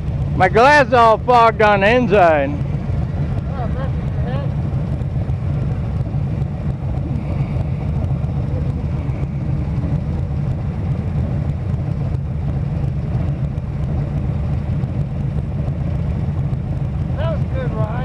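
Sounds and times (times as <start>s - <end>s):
motorcycle engine rumbling: 0.0s - 18.0s.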